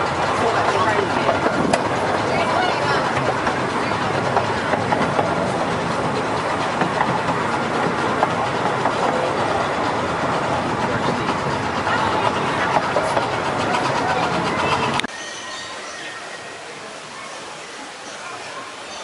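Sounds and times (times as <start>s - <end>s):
small train cars rattling: 0.0s - 19.0s.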